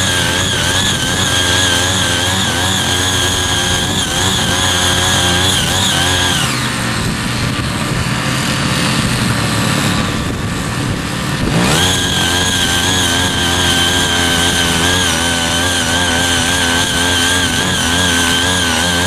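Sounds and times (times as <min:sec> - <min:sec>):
small tiller engine revving: 0:00.0 - 0:19.0.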